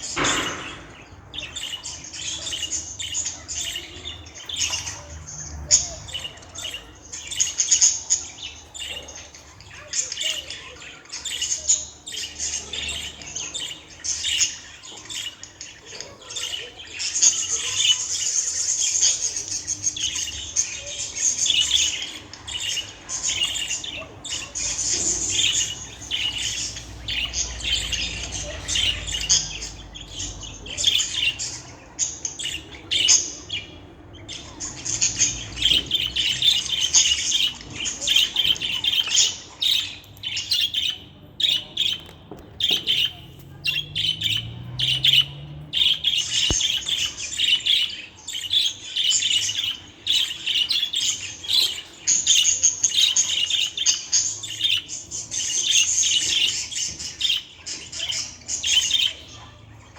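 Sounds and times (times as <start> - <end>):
budgerigar chattering and warbling: 0.0 - 59.9.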